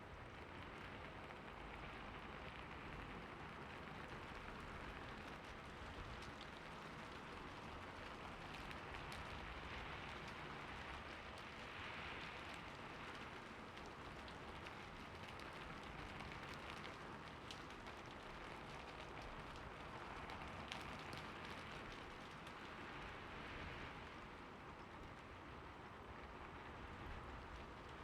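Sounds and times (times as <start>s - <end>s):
soft rain falling: 0.0s - 28.0s
raindrop ticks: 0.6s - 28.0s.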